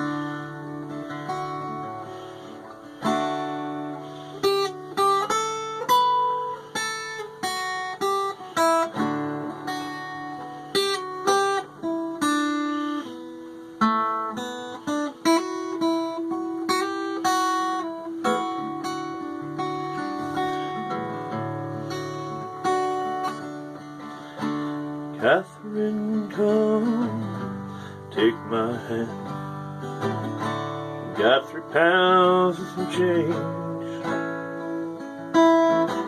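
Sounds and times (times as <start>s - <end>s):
acoustic guitar folk melody: 0.0s - 36.0s.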